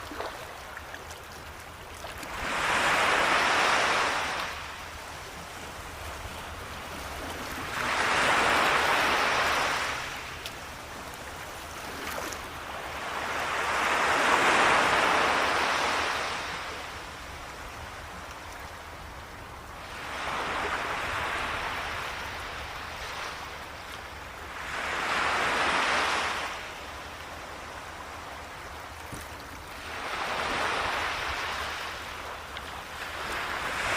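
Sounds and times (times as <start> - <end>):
ocean waves rolling in: 0.0 - 33.9.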